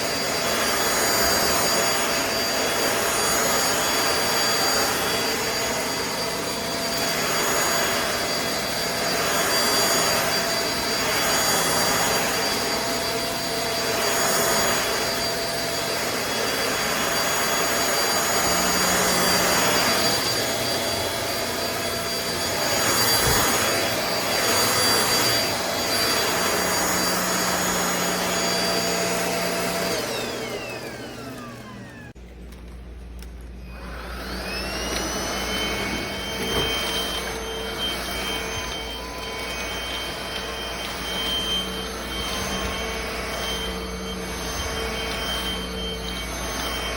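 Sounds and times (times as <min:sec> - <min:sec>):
stick vacuum motor whine: 0:00.0 - 0:46.9.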